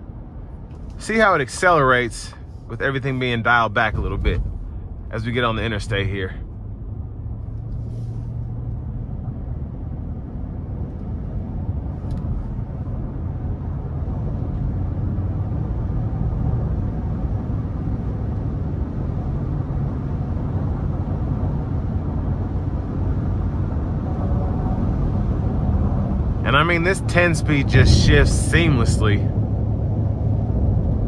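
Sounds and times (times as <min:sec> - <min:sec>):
car engine droning low: 0:00.0 - 0:31.0.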